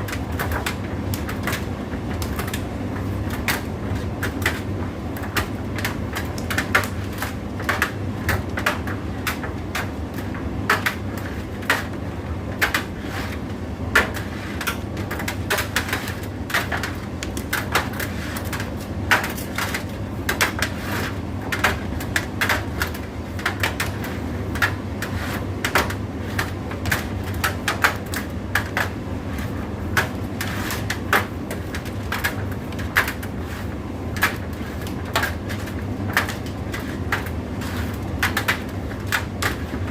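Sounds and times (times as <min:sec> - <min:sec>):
tumble dryer motor hum: 0:00.0 - 0:39.9.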